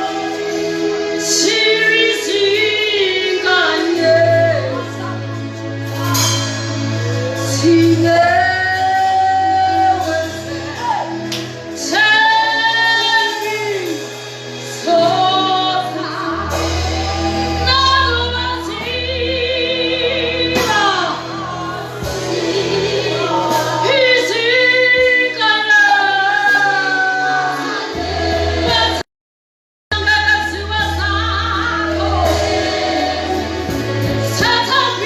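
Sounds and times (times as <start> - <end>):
sustained bass accompaniment: 0.0 - 29.0, 29.9 - 35.0
woman singing gospel: 0.0 - 29.0, 29.9 - 35.0.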